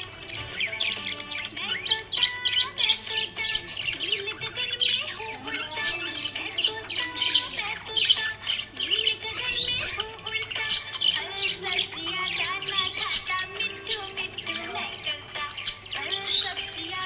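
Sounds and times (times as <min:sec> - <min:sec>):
budgerigar chirping and warbling: 0:00.0 - 0:17.0.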